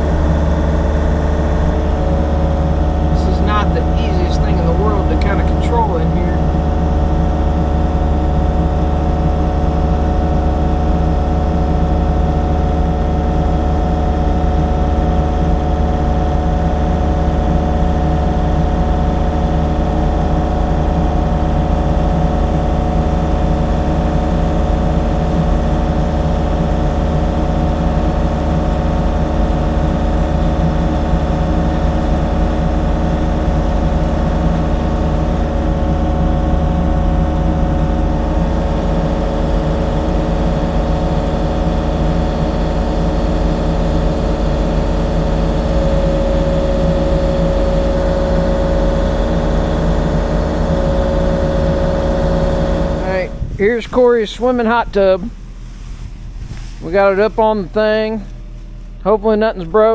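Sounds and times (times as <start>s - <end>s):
excavator diesel engine running: 0.0s - 55.6s, 56.2s - 59.9s.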